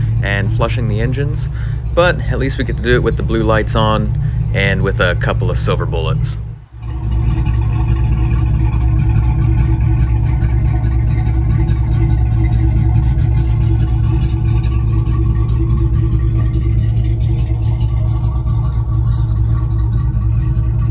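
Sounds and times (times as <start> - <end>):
boat engines idling: 0.0 - 20.9.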